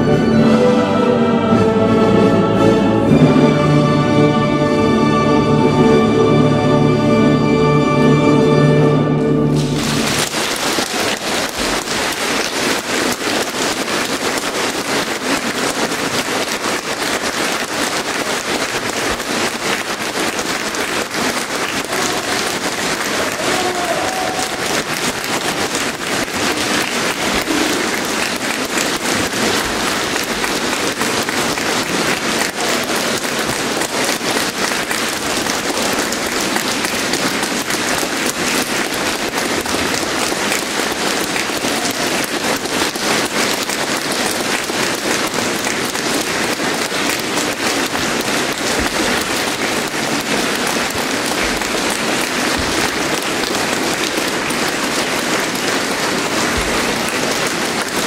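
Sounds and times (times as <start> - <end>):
large audience applauding: 3.3 - 58.0.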